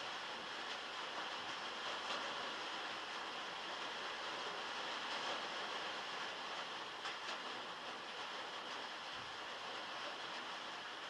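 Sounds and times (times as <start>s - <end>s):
heavy rain on a metal roof: 0.0s - 11.0s.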